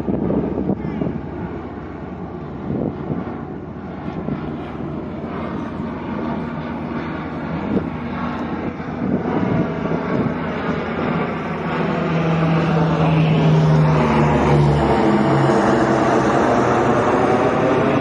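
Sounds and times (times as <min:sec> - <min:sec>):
turboprop aircraft droning overhead: 0:00.0 - 0:18.0.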